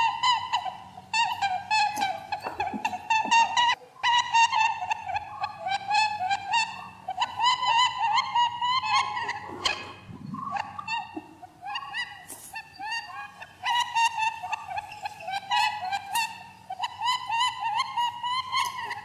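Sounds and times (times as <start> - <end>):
high-pitched animal squeaks: 0.0 - 19.0.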